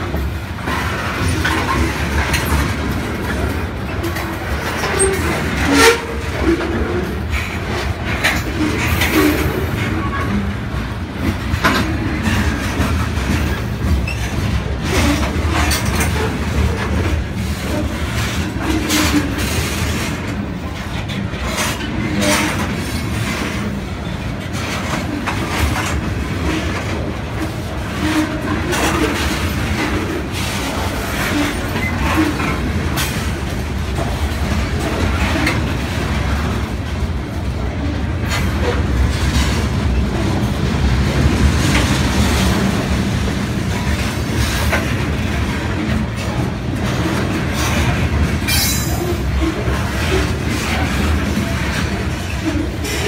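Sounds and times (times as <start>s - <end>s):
steel wheels rumbling on rail: 0.0s - 53.0s
wheel trucks clicking and clanking: 0.1s - 53.0s.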